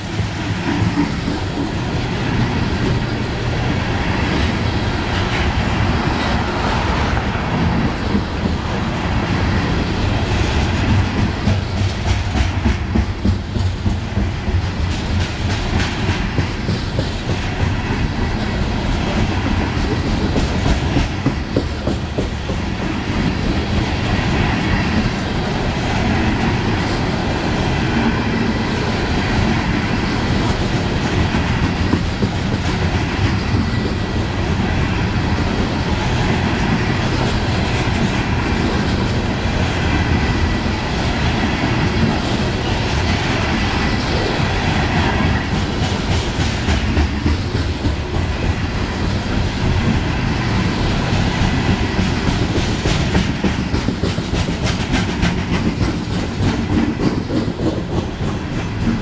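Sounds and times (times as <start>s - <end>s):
train wheels clicking over rail joints: 0.0s - 6.8s, 7.5s - 59.0s
train rumble: 0.0s - 59.0s.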